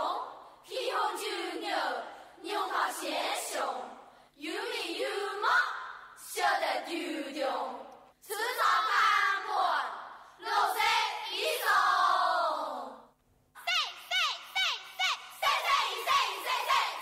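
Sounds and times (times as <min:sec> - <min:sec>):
women chanting in unison: 0:00.0 - 0:13.1, 0:14.1 - 0:17.0.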